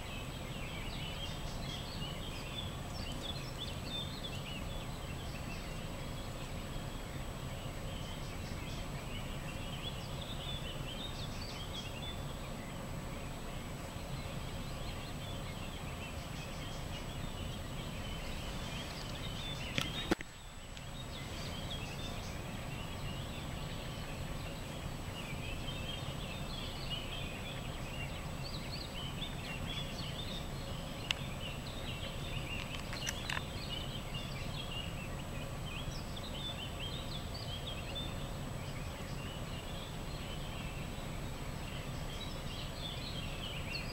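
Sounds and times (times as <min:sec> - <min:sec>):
low background noise: 0:00.0 - 0:43.9.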